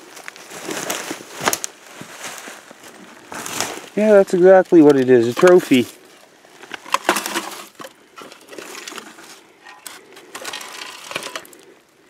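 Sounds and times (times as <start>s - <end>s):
dry leaves and twigs crackling: 0.0s - 12.0s.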